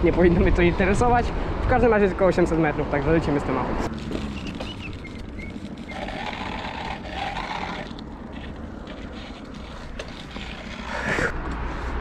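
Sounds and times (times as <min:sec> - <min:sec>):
street and traffic noise: 0:00.0 - 0:12.0.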